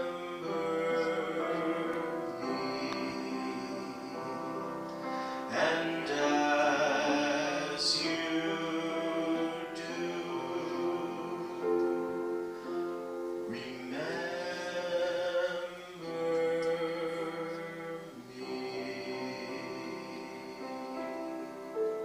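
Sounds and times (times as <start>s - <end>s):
instrumental accompaniment: 0.0s - 22.0s
person singing with vibrato: 0.0s - 22.0s.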